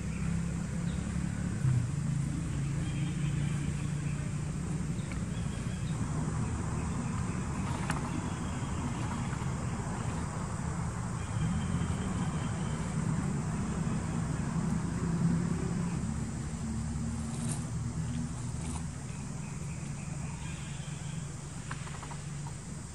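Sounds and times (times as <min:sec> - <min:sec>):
low rumble with engine hum: 0:00.0 - 0:22.9.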